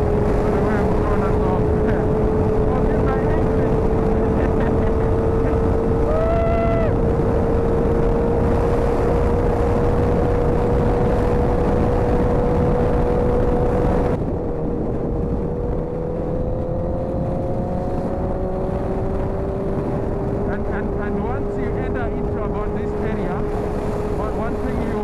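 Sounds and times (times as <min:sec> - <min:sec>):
motorcycle engine cruising: 0:00.0 - 0:25.0
wind rush: 0:00.0 - 0:25.0.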